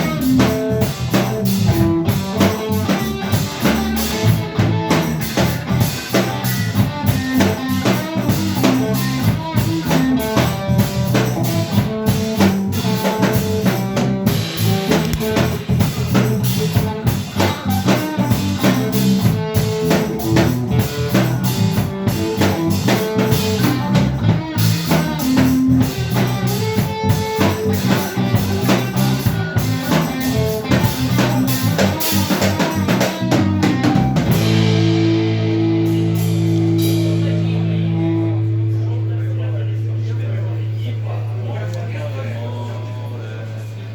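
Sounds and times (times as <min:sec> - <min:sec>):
drum kit playing: 0:00.0 - 0:39.9
electric guitar: 0:00.0 - 0:40.7
bass guitar: 0:00.0 - 0:42.9.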